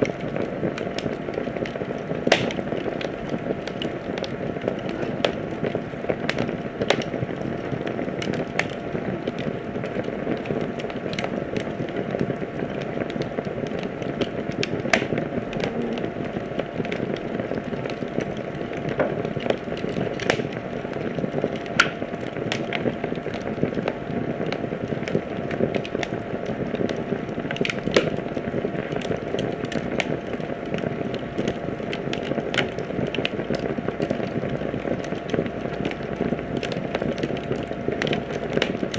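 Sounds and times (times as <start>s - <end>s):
flames hissing: 0.0s - 38.9s
wood fire crackling and popping: 0.0s - 38.9s.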